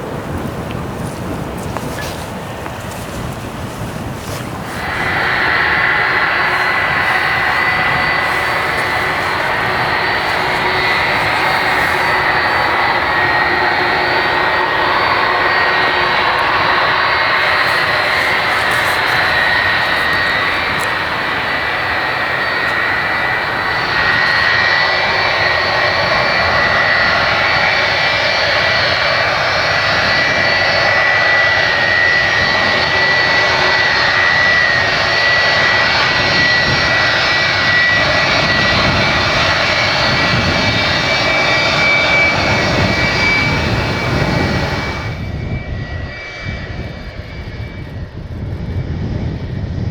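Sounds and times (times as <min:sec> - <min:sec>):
high engine whine: 0:00.0 - 0:47.9
jet engines roaring: 0:00.0 - 0:49.9.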